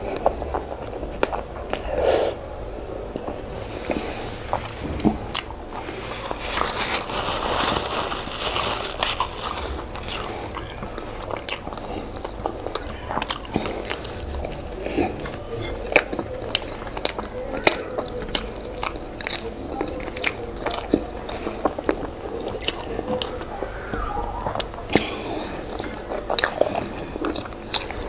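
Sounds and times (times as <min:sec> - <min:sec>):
person chewing food: 0:00.0 - 0:02.4, 0:03.1 - 0:28.0.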